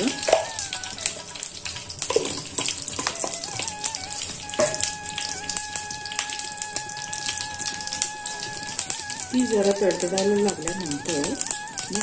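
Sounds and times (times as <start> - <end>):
seeds popping crackles: 0.0 - 12.0
seeds sizzling in hot oil: 0.0 - 12.0.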